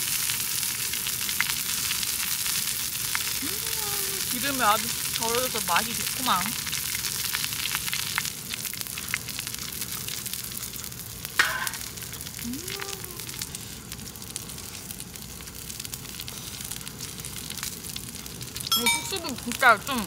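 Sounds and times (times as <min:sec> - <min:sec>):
meat sizzling on a griddle: 0:00.0 - 0:20.0.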